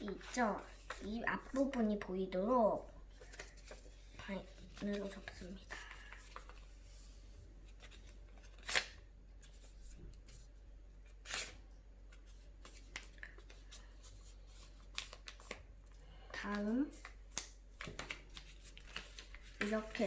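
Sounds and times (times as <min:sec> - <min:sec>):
paper being folded: 0:00.0 - 0:02.1, 0:03.1 - 0:20.0.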